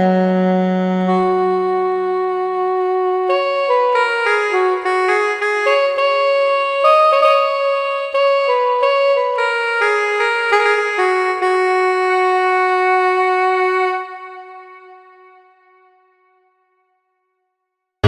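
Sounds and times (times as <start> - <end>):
keyboard wind instrument melody: 0.0 - 16.5.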